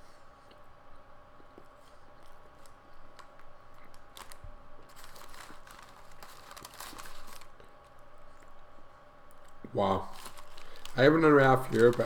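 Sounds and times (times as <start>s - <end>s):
sandwich being eaten crackling: 1.4s - 12.0s.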